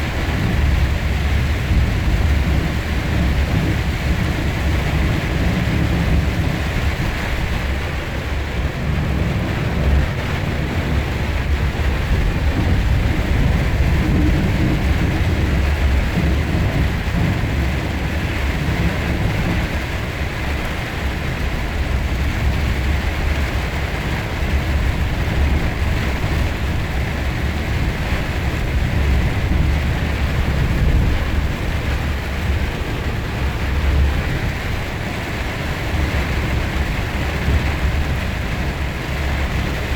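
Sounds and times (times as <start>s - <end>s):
deep rumble: 0.0s - 39.9s
heavy rain: 0.0s - 39.9s.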